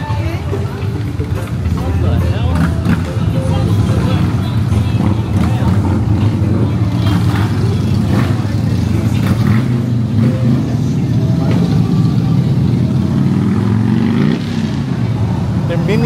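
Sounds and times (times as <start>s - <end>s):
traffic engines rumbling: 0.0s - 16.0s.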